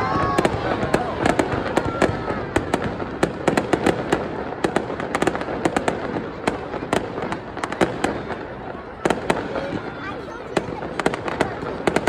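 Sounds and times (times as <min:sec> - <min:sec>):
continuous rumbling haze: 0:00.0 - 0:12.0
fireworks bangs and crackles: 0:00.0 - 0:12.0.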